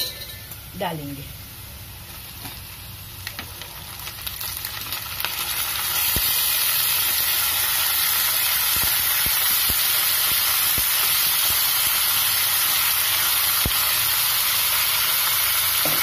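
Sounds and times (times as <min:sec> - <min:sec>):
chicken sizzling in oil: 0:01.4 - 0:16.0.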